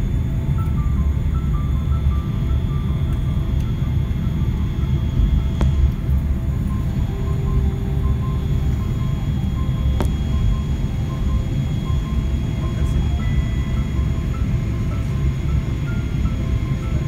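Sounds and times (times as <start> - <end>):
airliner cabin engine drone: 0.0 - 17.0.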